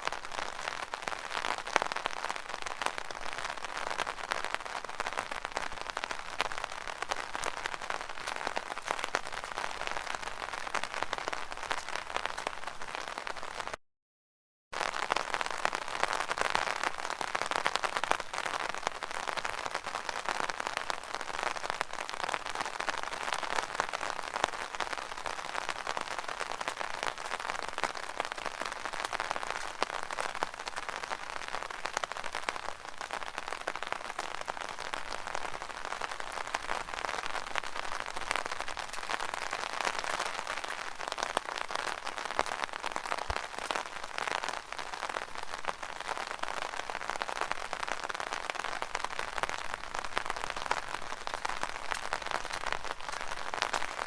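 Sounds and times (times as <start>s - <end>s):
rain drumming on an umbrella: 0.0s - 13.8s, 14.8s - 54.0s.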